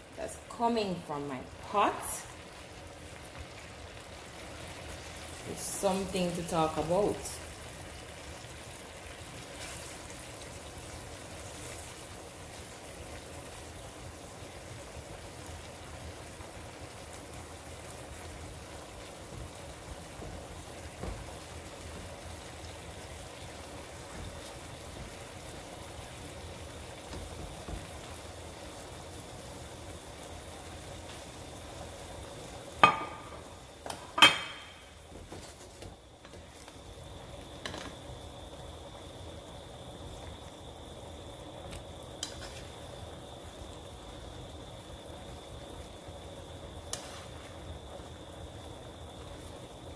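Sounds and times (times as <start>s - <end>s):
broth simmering in a pan: 0.0s - 49.9s.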